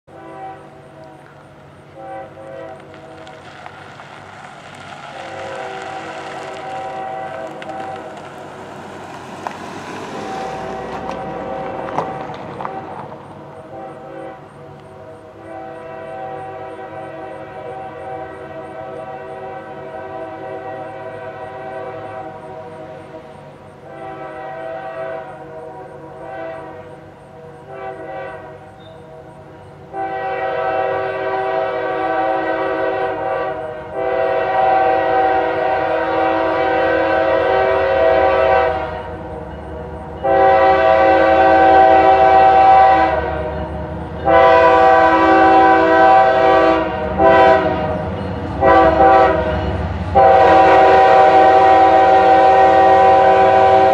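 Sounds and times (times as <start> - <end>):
locomotive air horn blasts: 0.0 - 3.4, 5.0 - 8.2, 10.3 - 53.9
locomotive engine rumble: 0.1 - 53.9.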